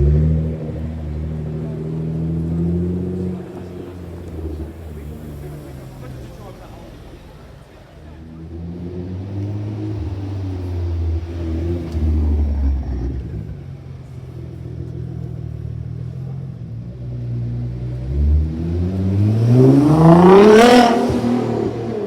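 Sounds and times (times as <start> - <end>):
car engine revving up: 0.0 - 22.0
car exhaust at low revs: 0.0 - 22.0.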